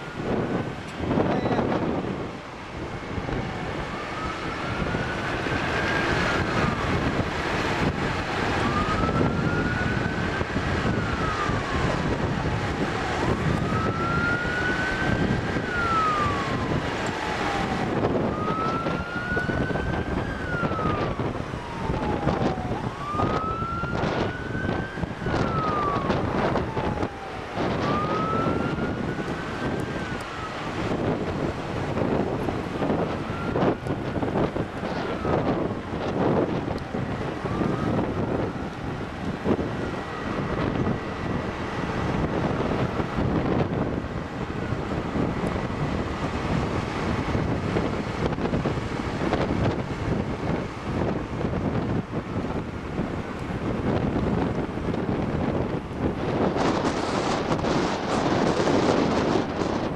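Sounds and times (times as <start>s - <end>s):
road noise: 0.0s - 59.9s
siren wailing: 0.0s - 59.9s
wind noise on microphone: 0.0s - 59.9s.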